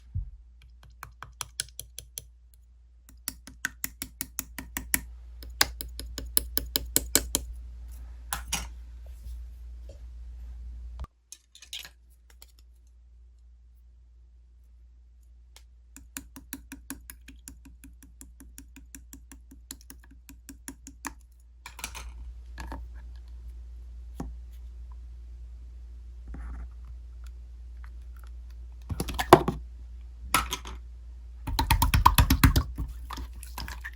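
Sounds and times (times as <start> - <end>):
steady low hum: 0.0 - 1.2, 2.2 - 11.1, 12.2 - 33.9.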